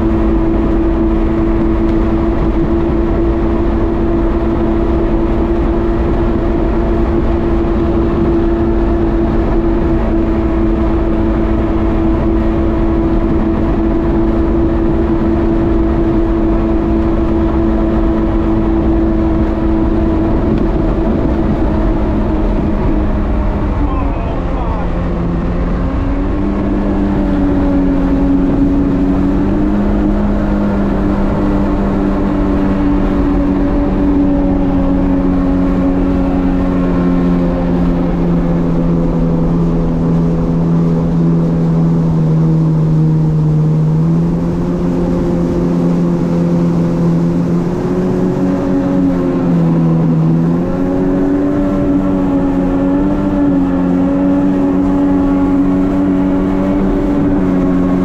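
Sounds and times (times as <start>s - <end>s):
jet ski engine running: 0.0s - 58.0s
rushing water noise: 0.0s - 58.0s.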